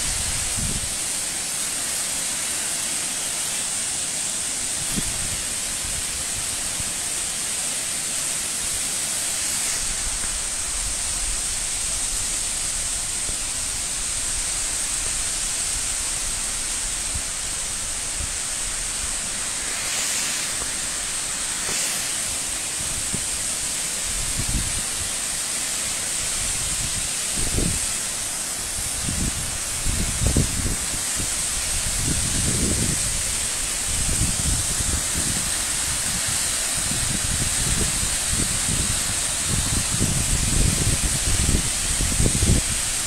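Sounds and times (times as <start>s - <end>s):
thin high hiss: 0.0s - 43.0s
waterfall rushing: 0.0s - 43.0s.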